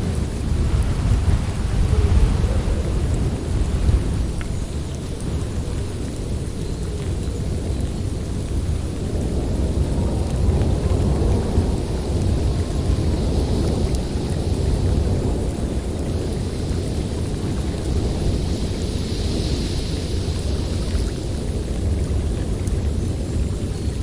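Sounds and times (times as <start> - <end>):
snowstorm wind blowing: 0.0 - 24.0.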